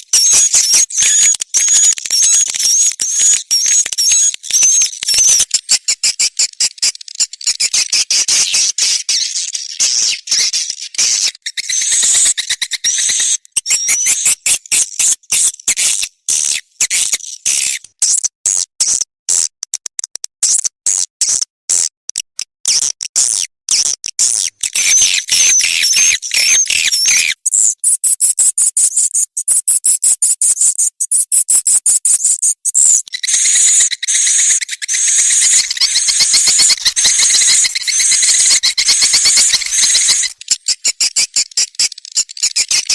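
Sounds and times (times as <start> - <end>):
swiftlets twittering and clicking: 0.0 - 17.9, 23.7 - 42.9.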